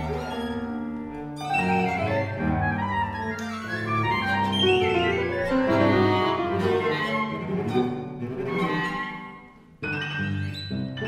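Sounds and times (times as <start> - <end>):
bowed violin and cello: 0.0 - 11.0
chamber ensemble playing: 0.0 - 11.0.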